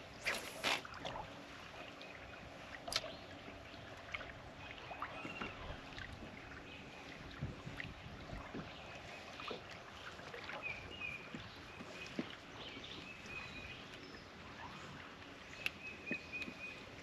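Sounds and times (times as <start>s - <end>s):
water and wind hiss: 0.0s - 17.0s.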